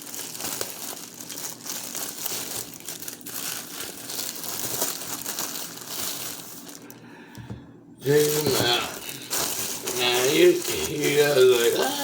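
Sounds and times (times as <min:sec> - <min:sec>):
plastic packaging crinkling: 0:00.0 - 0:07.1, 0:08.0 - 0:12.0.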